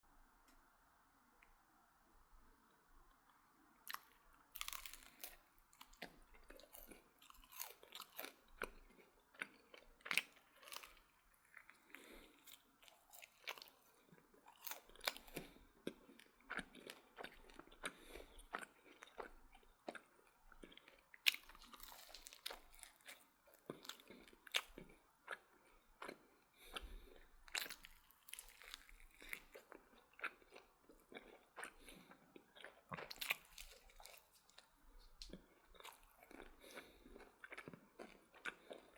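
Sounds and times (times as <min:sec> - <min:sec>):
person crunching fried chicken: 0:03.8 - 0:38.9.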